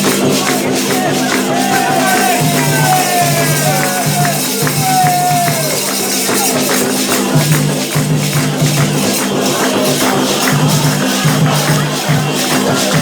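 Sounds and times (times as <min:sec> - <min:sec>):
hand percussion: 0:00.0 - 0:13.0
shaker rattling: 0:00.0 - 0:13.0.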